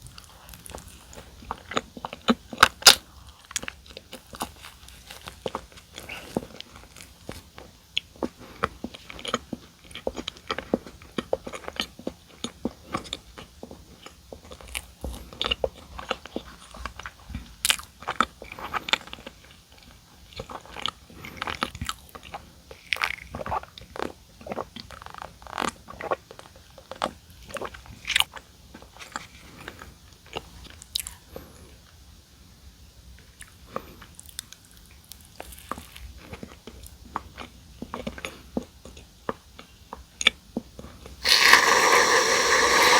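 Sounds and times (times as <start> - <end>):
chewing and crunching donuts: 0.0 - 32.0, 33.2 - 42.9.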